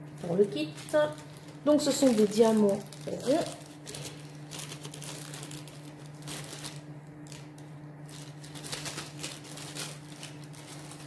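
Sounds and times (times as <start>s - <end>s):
plastic bags crinkling: 0.0s - 11.0s
steady low hum: 0.0s - 11.0s.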